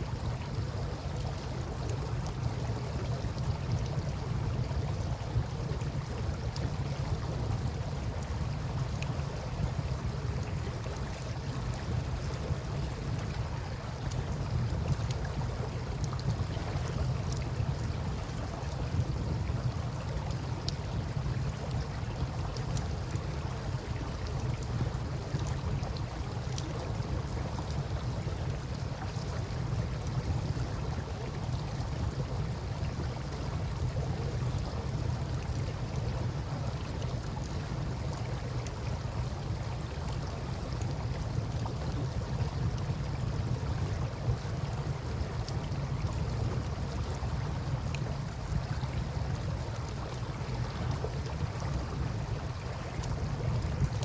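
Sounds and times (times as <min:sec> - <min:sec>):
campfire crackling: 0:07.3 - 0:51.8.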